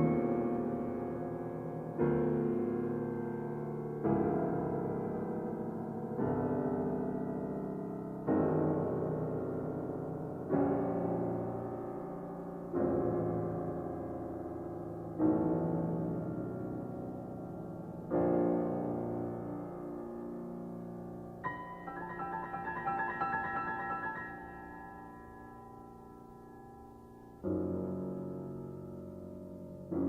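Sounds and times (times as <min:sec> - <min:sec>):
piano playing slow chords: 0:00.0 - 0:30.0.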